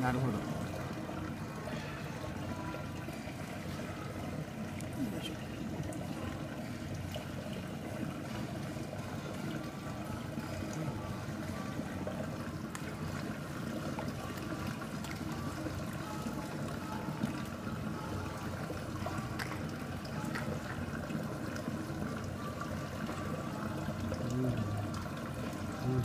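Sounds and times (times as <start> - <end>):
water trickling: 0.0 - 26.0.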